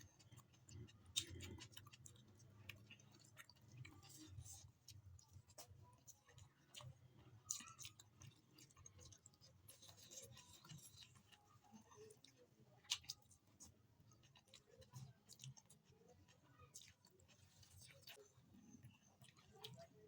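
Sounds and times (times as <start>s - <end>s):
person chewing: 0.1s - 19.9s.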